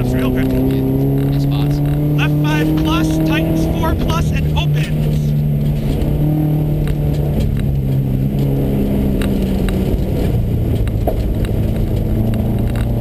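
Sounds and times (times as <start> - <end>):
car engine accelerating: 0.0 - 13.0
road noise: 0.0 - 13.0.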